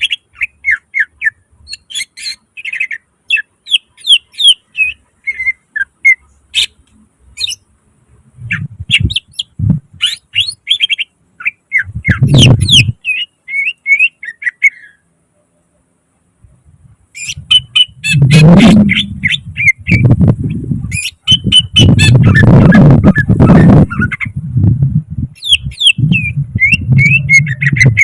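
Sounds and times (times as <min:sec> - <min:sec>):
bird singing whistled notes: 0:00.0 - 0:06.8, 0:07.4 - 0:07.6, 0:08.5 - 0:15.0, 0:17.2 - 0:24.3, 0:25.4 - 0:28.0.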